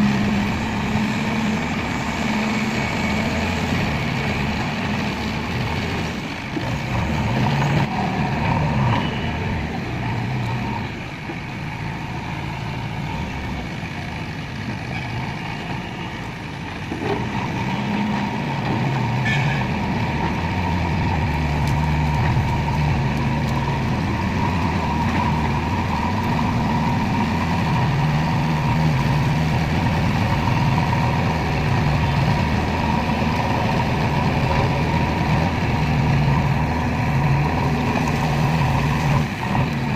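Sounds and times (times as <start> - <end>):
diesel engine under changing load: 0.0 - 39.9.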